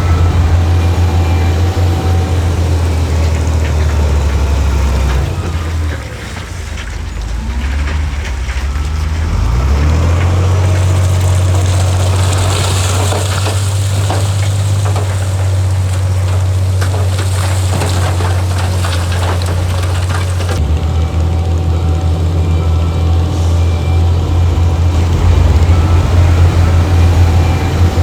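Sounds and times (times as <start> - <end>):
heavy diesel machinery running: 0.0 - 28.0
rock and dirt crackling: 0.0 - 28.0.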